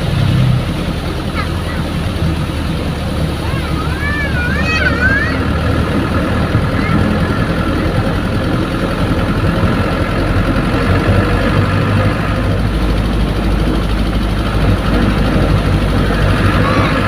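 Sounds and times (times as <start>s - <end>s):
bus diesel engine droning: 0.0s - 17.0s
bus rattle and road noise: 0.0s - 17.0s.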